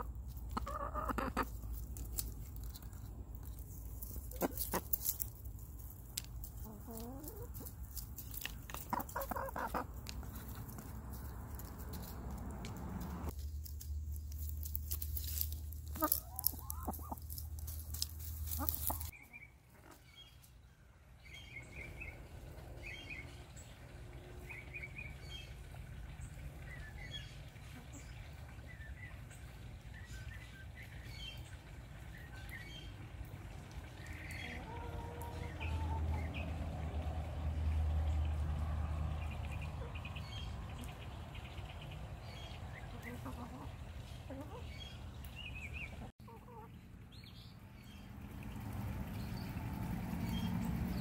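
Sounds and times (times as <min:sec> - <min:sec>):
hens chirping and clucking: 0:00.0 - 0:51.0.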